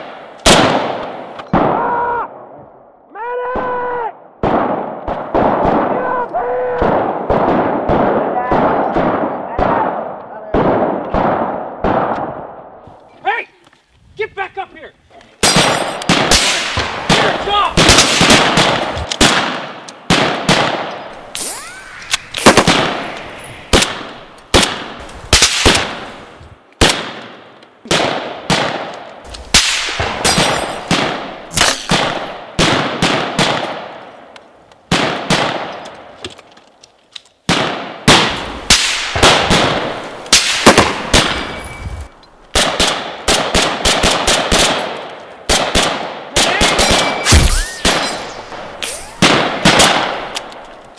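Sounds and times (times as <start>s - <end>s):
rifle shots echoing: 0.0s - 2.5s, 4.4s - 12.7s, 15.4s - 26.2s, 26.8s - 34.3s, 34.9s - 36.1s, 37.5s - 41.7s, 42.5s - 50.8s.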